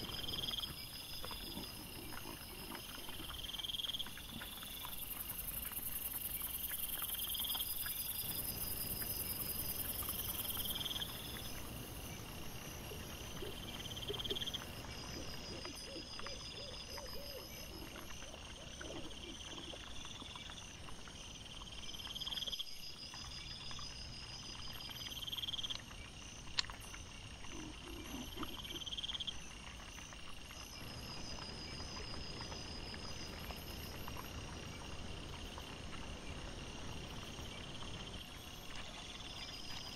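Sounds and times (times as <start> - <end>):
insects pulsing chirps: 0.0 - 39.9.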